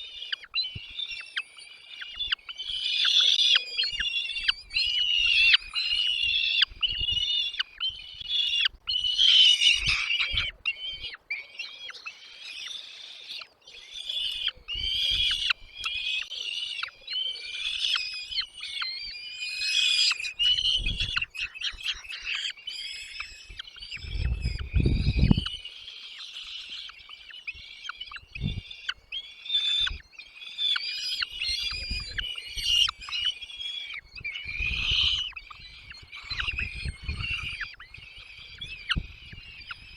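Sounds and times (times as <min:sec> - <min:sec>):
baby birds chirping: 0:00.0 - 0:39.9.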